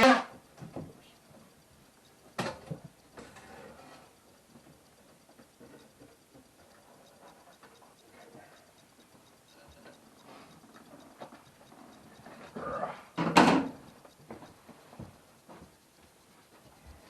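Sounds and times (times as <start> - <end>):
faint steady ticking: 0.0 - 17.0.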